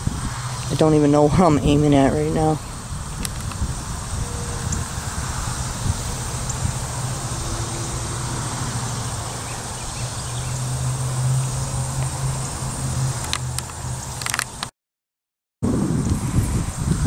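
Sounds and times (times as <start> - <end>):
steady low rumble: 0.0 - 13.8
high drone of insects: 0.0 - 14.7.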